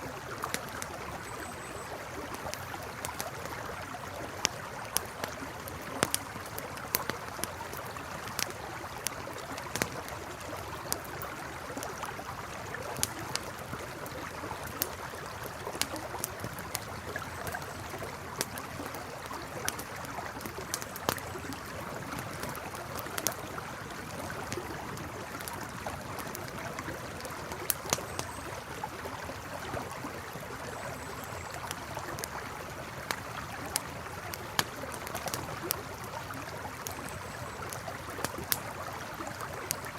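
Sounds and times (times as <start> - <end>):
campfire crackling: 0.0 - 39.9
flowing river: 0.0 - 39.9.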